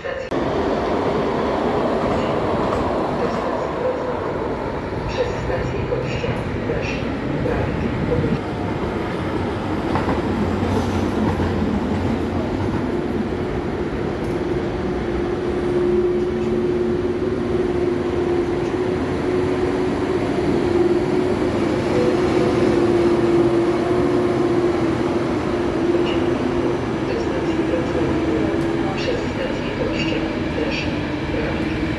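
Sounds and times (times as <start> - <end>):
rail vehicle rumbling past: 0.0 - 31.9.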